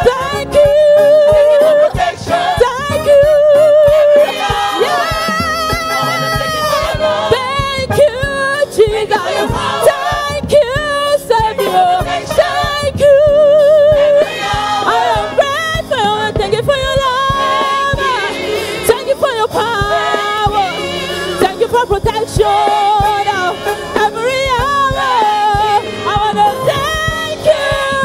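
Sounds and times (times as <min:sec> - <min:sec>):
gospel choir singing: 0:00.0 - 0:28.0.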